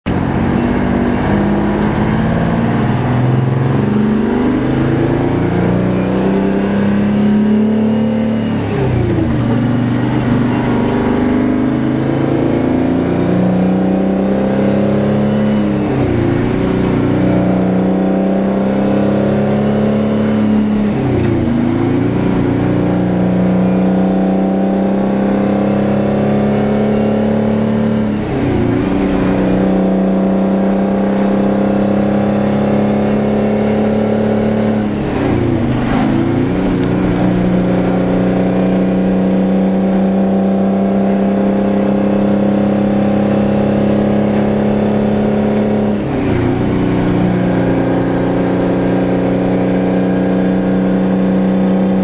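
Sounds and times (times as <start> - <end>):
truck diesel engine shifting gears: 0.0 - 52.0.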